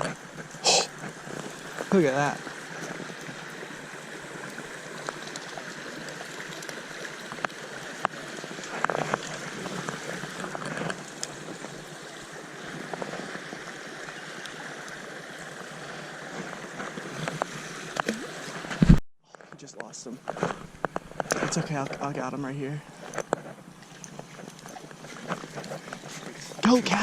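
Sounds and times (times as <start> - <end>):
stream water running: 0.0 - 19.0, 19.6 - 27.0.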